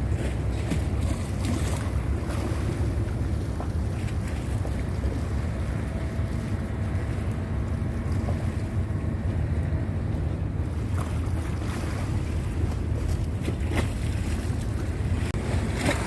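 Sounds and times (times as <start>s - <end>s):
sea waves at shore: 0.0s - 16.0s.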